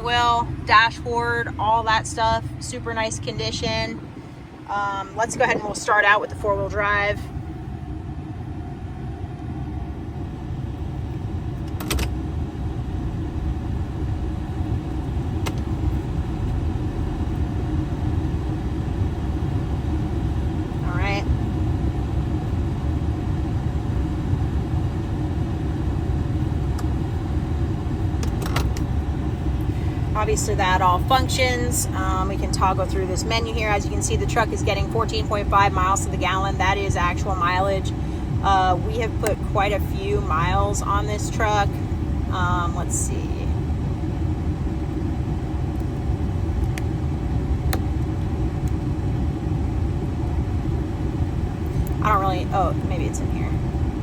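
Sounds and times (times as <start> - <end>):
air conditioning running: 0.0 - 54.0
diesel engine idling in cab: 0.0 - 54.0.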